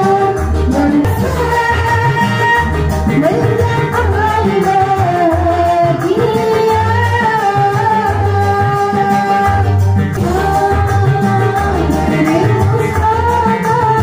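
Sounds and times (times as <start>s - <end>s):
amplified backing music: 0.0s - 14.0s
pulsing bass: 0.0s - 14.0s
woman singing into a microphone: 0.0s - 14.0s.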